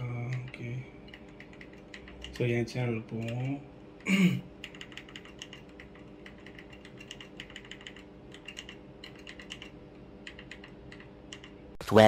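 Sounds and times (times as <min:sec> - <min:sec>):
keyboard typing clicks: 0:00.0 - 0:03.6, 0:04.6 - 0:11.6
faint steady hum: 0:00.0 - 0:12.0.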